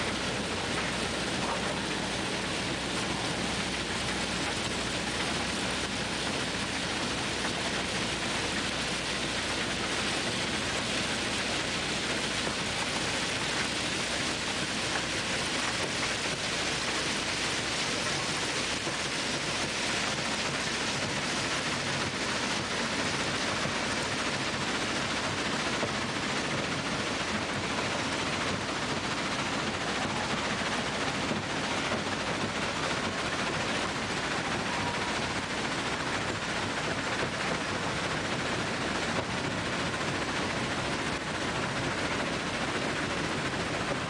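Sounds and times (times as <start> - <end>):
machine running: 0.0 - 44.0.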